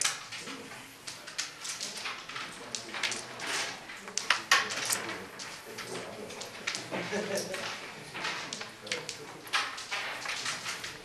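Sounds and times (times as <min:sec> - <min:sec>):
carrom pieces clicking: 0:00.0 - 0:11.0.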